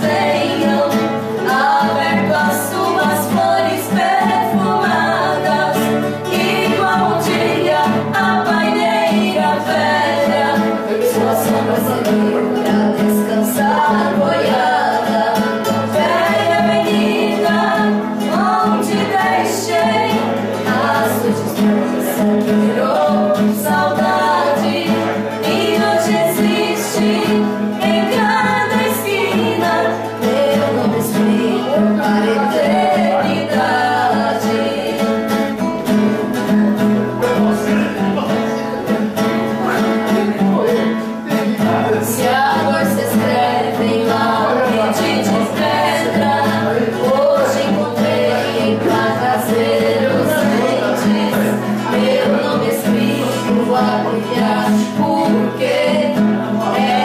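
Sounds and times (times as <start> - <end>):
female vocal duo singing: 0.0 - 38.3, 39.7 - 57.0
acoustic guitar: 0.0 - 57.0.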